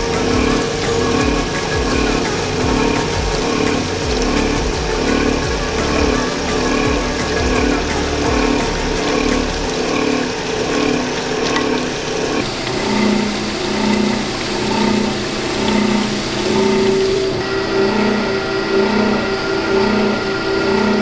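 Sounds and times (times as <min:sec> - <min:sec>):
belt-driven machine humming: 0:00.0 - 0:21.0.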